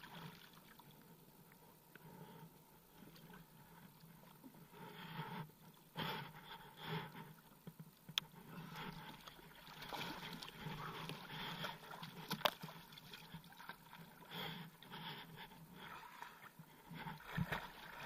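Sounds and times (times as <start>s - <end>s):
water sloshing against a hull: 0.0s - 18.0s.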